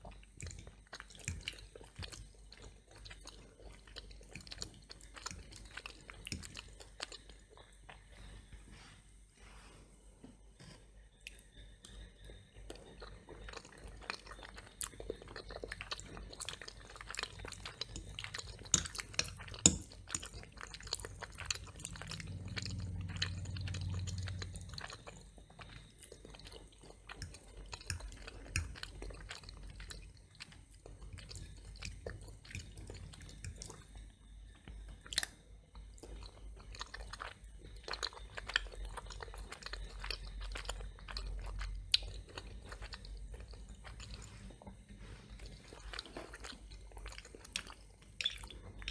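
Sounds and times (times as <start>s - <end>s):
close chewing of crunchy food: 0.0s - 8.9s, 10.6s - 48.9s.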